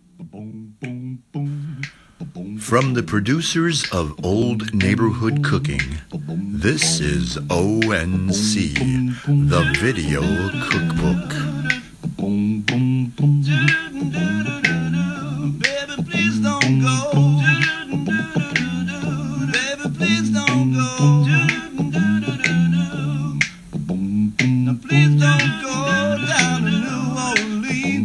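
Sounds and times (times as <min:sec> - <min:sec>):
finger snaps: 0:00.2 - 0:03.1, 0:03.8 - 0:04.1, 0:05.7 - 0:08.1, 0:08.7 - 0:28.0
voices singing a cappella: 0:00.2 - 0:28.0.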